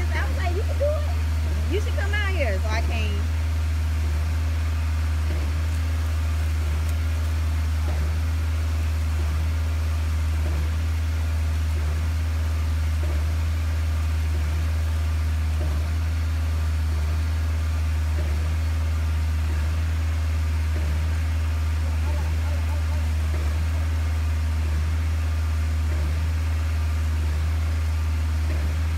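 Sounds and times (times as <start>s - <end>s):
pump engine droning: 0.0s - 28.9s.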